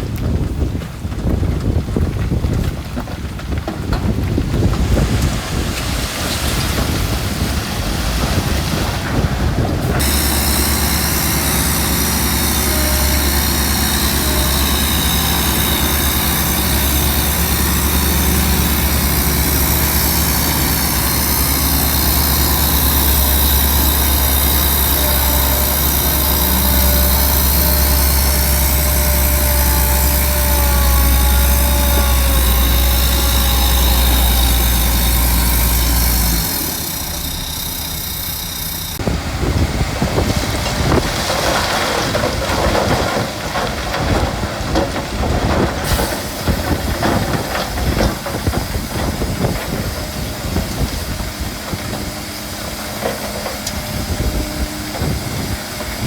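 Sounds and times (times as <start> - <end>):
wind buffeting microphone: 0.0 - 37.3, 39.0 - 56.0
heavy diesel engine running: 0.0 - 56.0.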